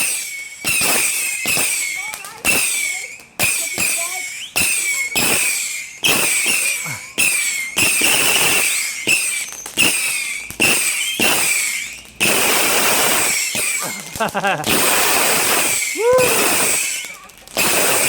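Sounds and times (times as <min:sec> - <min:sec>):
shrill wavering whistle: 0:00.0 - 0:03.2, 0:04.0 - 0:14.1, 0:14.8 - 0:18.0
firework reports: 0:00.0 - 0:18.0.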